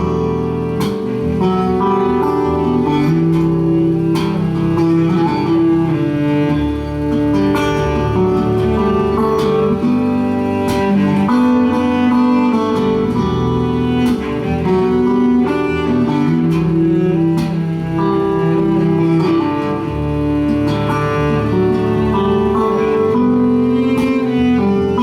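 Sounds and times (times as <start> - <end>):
acoustic guitar playing: 0.0 - 25.0.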